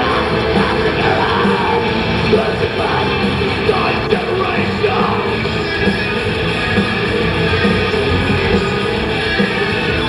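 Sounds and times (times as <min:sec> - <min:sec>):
distorted electric guitars: 0:00.0 - 0:10.0
drums: 0:00.0 - 0:10.0.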